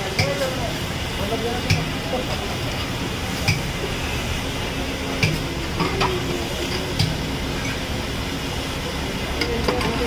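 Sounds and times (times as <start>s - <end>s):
frying hiss: 0.0s - 10.0s.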